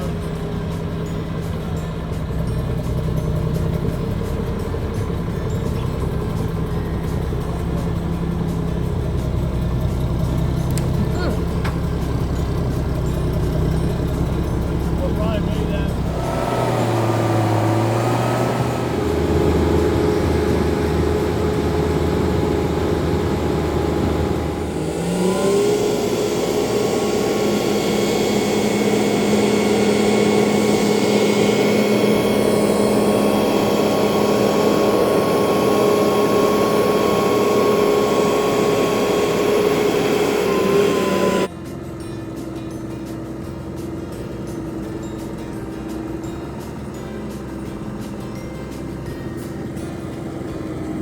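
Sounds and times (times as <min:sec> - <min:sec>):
heavy engine running: 0:00.0 - 0:51.0.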